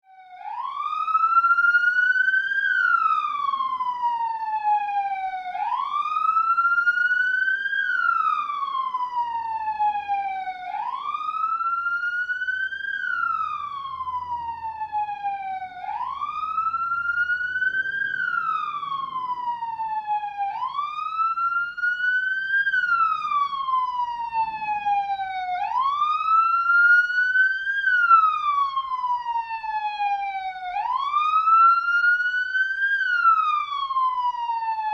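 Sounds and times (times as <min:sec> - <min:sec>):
police siren wailing: 0:00.0 - 0:34.9.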